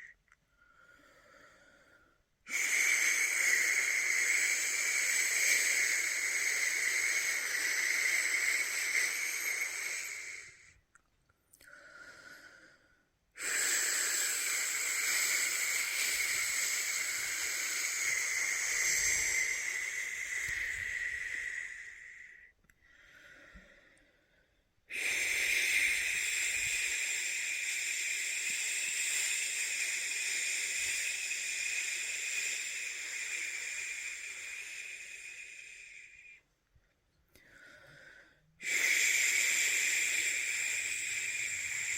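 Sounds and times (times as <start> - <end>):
soft intake of breath: 0.0 - 10.9, 11.6 - 36.5, 37.3 - 41.9.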